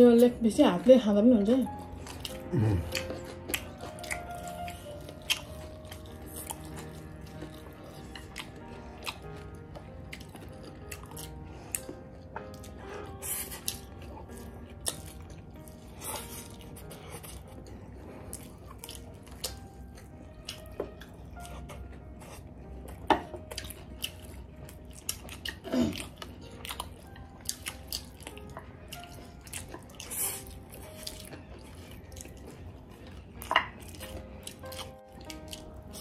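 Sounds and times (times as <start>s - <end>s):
wet chewing and slurping: 1.7s - 36.0s.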